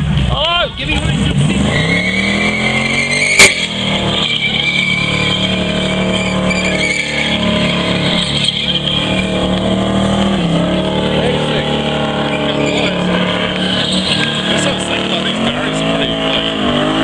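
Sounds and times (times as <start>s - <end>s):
car engine revving high: 0.0s - 17.0s
tyres screeching: 0.9s - 17.0s.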